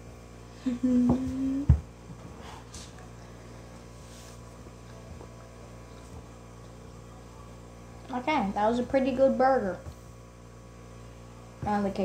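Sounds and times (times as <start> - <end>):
heater electrical hum: 0.0 - 12.0.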